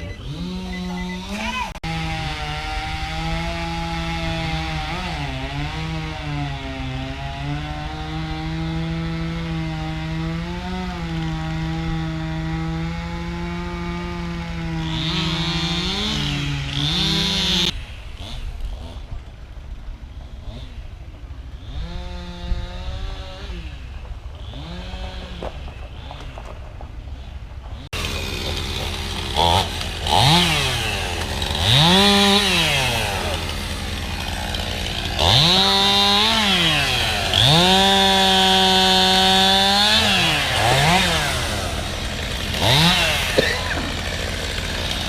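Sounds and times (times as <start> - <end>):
chainsaw engine running: 0.0 - 26.6, 27.2 - 45.0.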